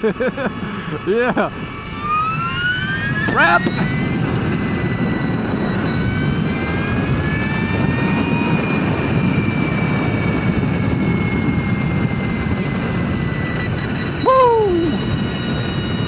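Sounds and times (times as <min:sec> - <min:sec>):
electric motor whine: 0:00.0 - 0:16.0
wind rush on microphone: 0:00.0 - 0:16.0.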